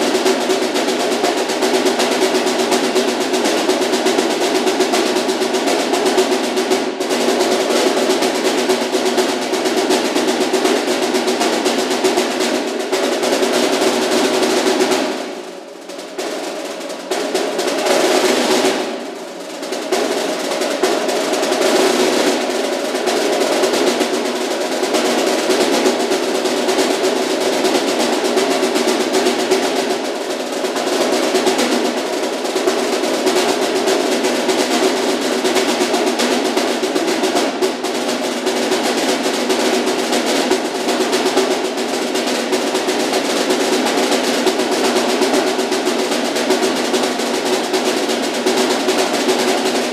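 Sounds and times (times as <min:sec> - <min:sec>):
snare drum rolls: 0:00.0 - 0:49.9.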